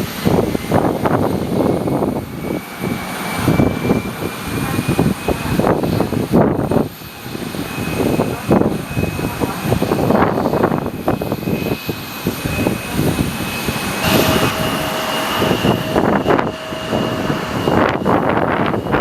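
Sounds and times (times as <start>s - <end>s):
airliner engines whining: 0.0s - 19.0s
wind buffeting microphone: 0.0s - 19.0s.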